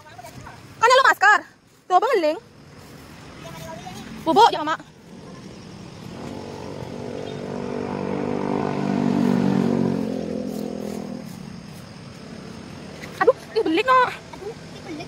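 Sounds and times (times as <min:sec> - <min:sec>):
motor engine passing by: 0:02.6 - 0:15.0.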